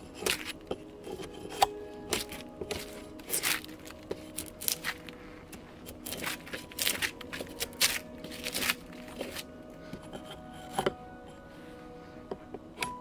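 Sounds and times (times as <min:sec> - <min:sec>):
crunching and crackling strokes: 0:00.0 - 0:13.0
faint background music: 0:00.0 - 0:13.0.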